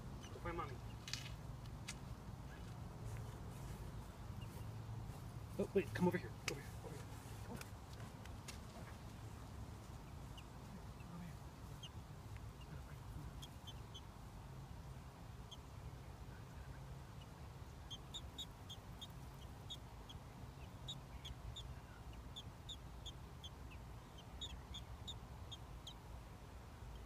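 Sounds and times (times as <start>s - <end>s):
nestlings peeping: 0.0s - 27.0s.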